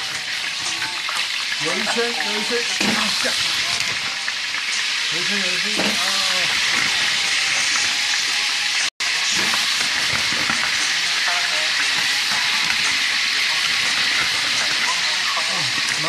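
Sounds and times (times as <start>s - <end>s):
squid sizzling in hot oil: 0.0s - 16.0s.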